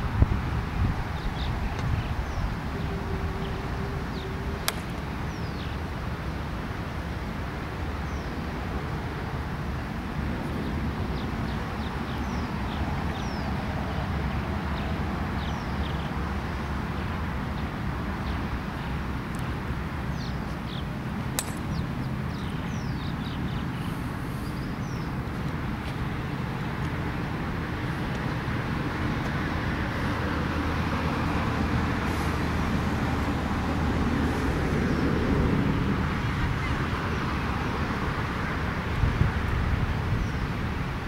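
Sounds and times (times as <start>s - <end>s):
road traffic hum: 0.0s - 41.0s.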